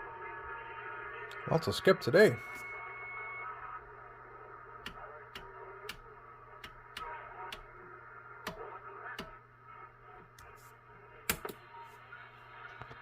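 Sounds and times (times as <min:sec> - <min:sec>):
steady hum: 0:00.0 - 0:12.9
faint wavering radio tones: 0:00.0 - 0:13.0
radio static crackles and pops: 0:00.0 - 0:13.0.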